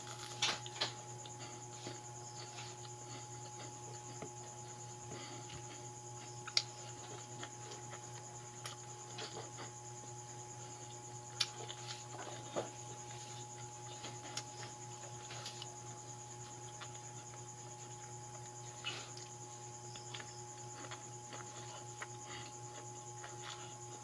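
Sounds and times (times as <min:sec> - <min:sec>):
person chewing food: 0:00.0 - 0:09.9, 0:10.6 - 0:24.0
steady low hum: 0:00.0 - 0:24.0.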